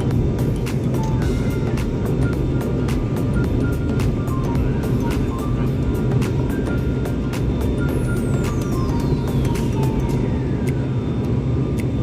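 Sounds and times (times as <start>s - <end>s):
high tone gliding downward: 0.0s - 11.8s
airliner engines rumbling: 0.0s - 12.0s.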